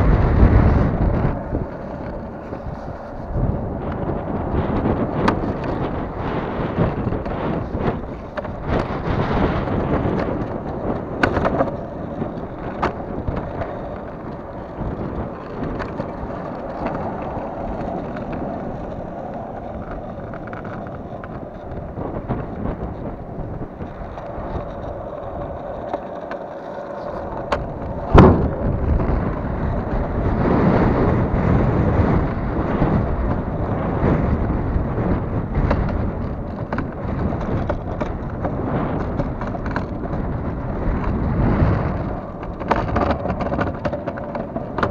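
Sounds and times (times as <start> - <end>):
longboard wheels rolling on asphalt: 0.0 - 44.9
wind buffeting microphone: 0.0 - 44.9.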